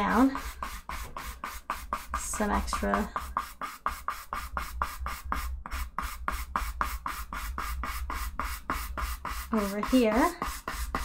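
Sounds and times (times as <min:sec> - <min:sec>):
brush scrubbing on canvas: 0:00.0 - 0:11.0.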